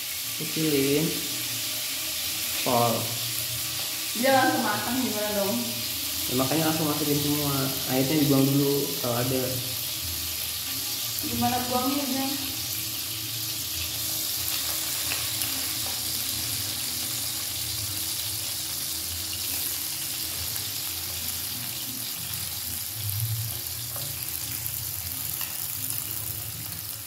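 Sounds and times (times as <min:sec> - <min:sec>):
shrimp sizzling in hot oil: 0:00.0 - 0:27.0.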